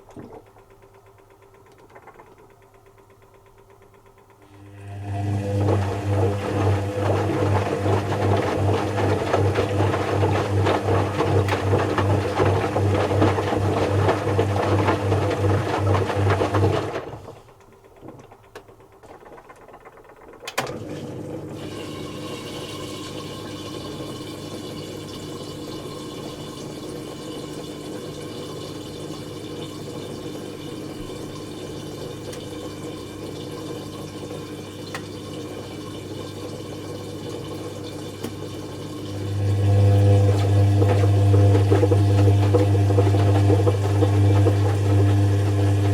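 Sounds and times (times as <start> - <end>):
washing machine running: 0.0 - 45.9
water filling machine: 0.0 - 45.9.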